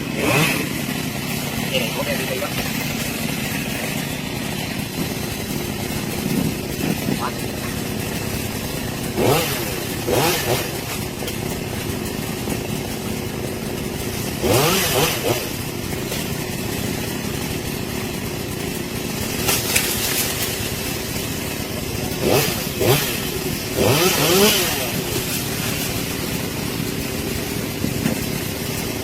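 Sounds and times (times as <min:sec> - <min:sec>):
chainsaw idling: 0:00.0 - 0:29.0
chainsaw throttle blips: 0:00.0 - 0:29.0.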